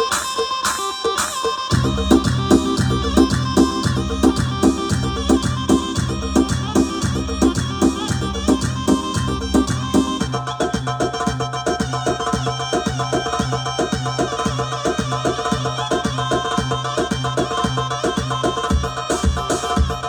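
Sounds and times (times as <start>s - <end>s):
dance music with percussion beat: 0.0s - 20.0s.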